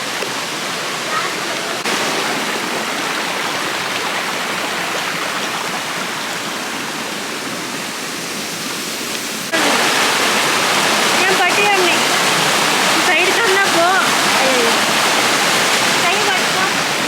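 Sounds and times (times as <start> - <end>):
water rushing over stones: 0.0 - 17.0.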